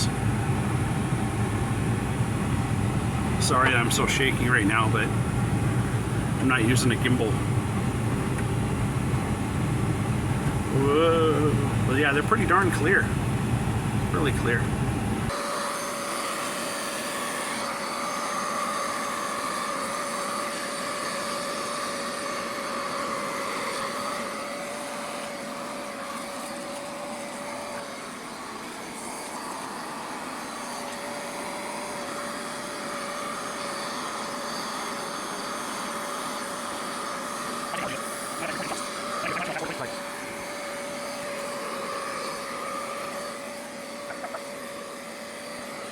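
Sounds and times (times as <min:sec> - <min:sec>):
motor whining: 0:00.0 - 0:45.9.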